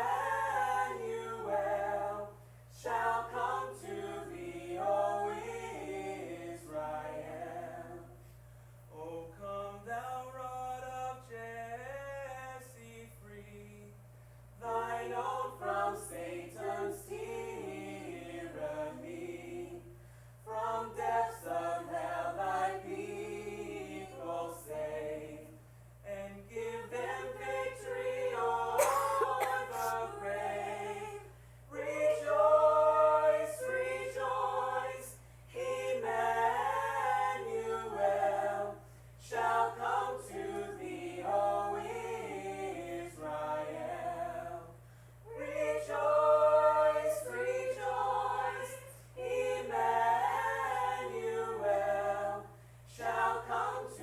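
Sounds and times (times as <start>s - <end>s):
choir singing a cappella: 0.0s - 8.3s, 8.9s - 14.0s, 14.6s - 54.0s
steady low hum: 0.0s - 54.0s.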